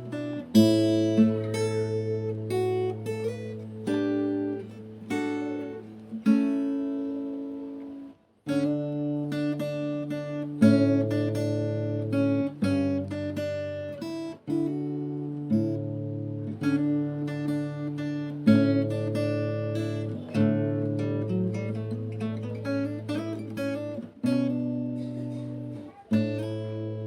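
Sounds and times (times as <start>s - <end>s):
acoustic guitar chords: 0.0s - 27.0s.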